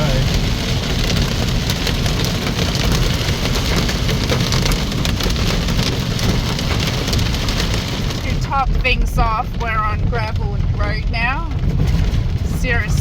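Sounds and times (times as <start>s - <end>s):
car rumbling on road: 0.0s - 13.0s
rain and hail on car roof: 0.0s - 13.0s.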